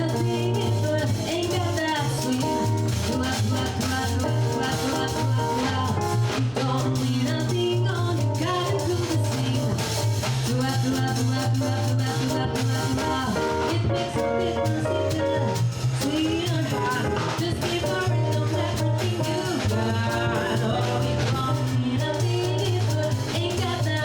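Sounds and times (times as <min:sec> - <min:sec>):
latin jazz band playing: 0:00.0 - 0:24.0.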